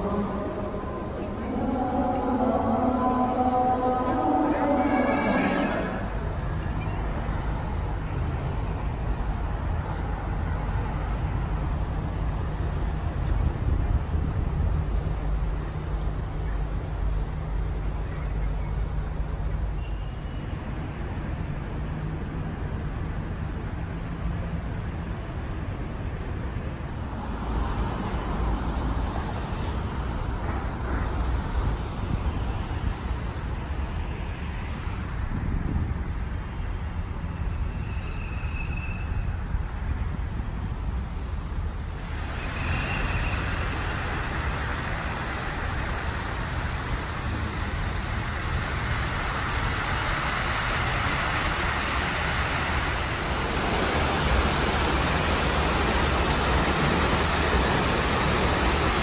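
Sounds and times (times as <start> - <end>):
traffic noise with low rumble: 0.0 - 59.0.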